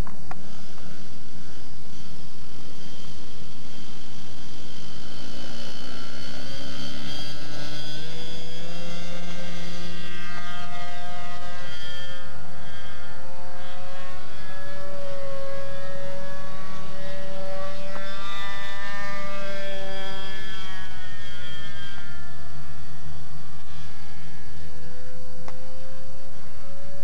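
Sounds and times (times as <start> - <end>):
model plane engine droning: 0.0 - 27.0.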